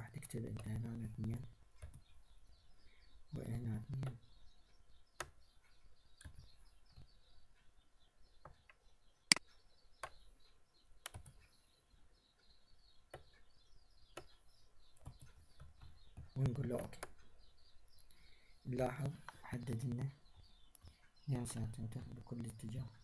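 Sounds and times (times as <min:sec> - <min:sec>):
faint bird chirping: 0:00.0 - 0:23.0.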